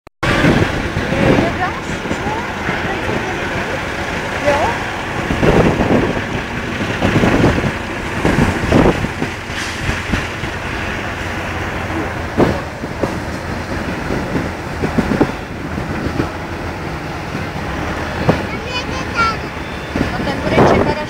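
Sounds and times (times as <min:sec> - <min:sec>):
truck diesel engine running: 0:00.2 - 0:21.0.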